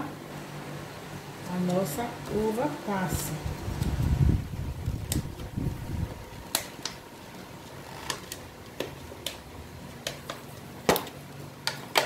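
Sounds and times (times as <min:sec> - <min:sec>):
faint hum: 0:00.0 - 0:11.8.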